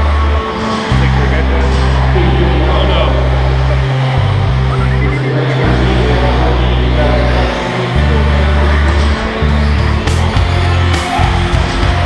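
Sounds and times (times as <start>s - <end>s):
background music with bass notes: 0.0s - 12.0s.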